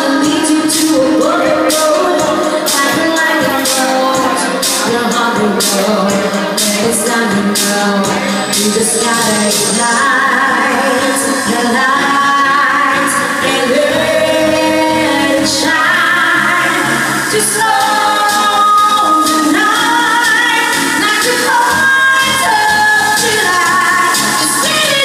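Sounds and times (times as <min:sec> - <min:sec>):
sing-along backing track: 0:00.0 - 0:25.0
woman singing into a microphone: 0:00.0 - 0:25.0.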